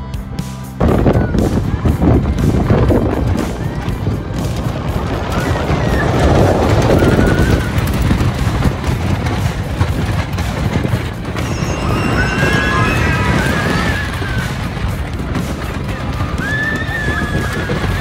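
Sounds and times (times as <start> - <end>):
roller coaster clattering on track: 0.8 - 18.0
wind rushing over microphone: 0.8 - 18.0
riders screaming: 3.3 - 18.0.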